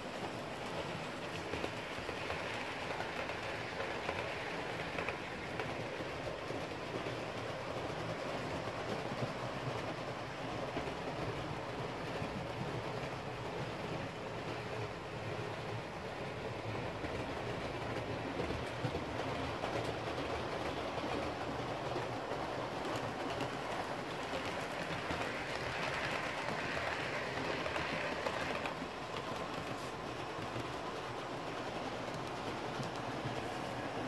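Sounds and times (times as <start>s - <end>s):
model train rolling rumble: 0.0s - 34.0s.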